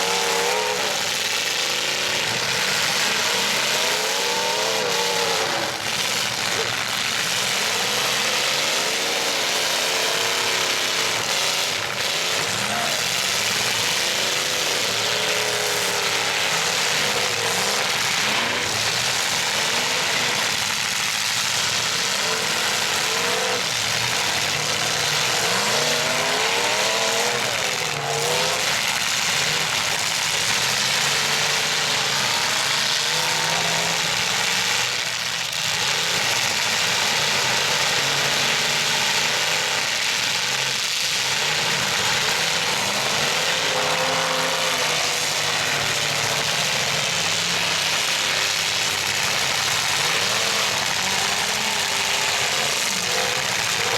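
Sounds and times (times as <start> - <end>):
truck engines revving: 0.0 - 53.9.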